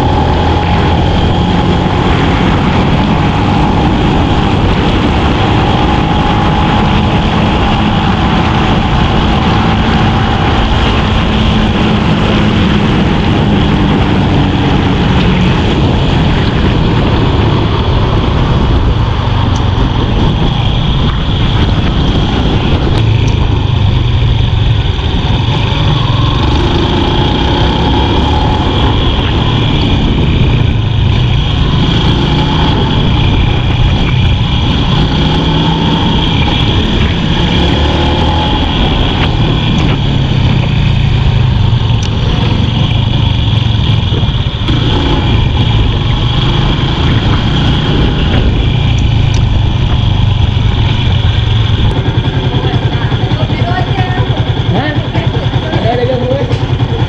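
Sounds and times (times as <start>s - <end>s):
wind on microphone: 0.0s - 55.7s
motorcycle engine running: 0.0s - 57.0s.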